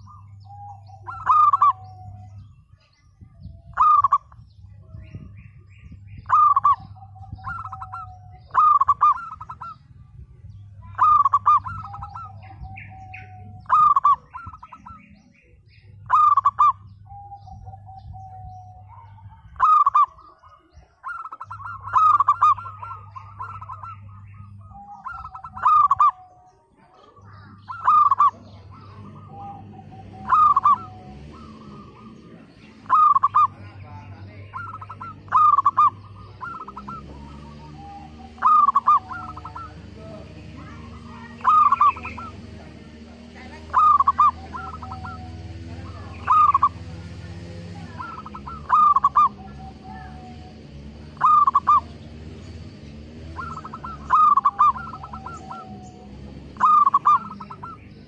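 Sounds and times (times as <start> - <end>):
dove cooing: 0.0 - 5.4, 6.0 - 9.9, 10.5 - 58.0.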